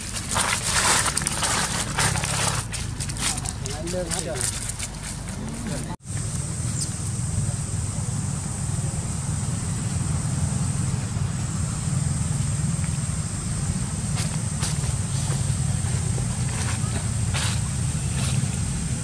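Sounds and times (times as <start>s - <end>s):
low outdoor rumble: 0.0s - 19.0s
steady high hiss: 0.0s - 19.0s.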